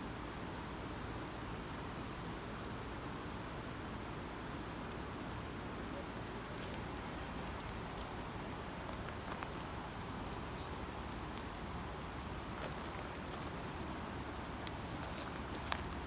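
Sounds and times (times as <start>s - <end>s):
faint crackles and ticks: 0.0s - 16.0s.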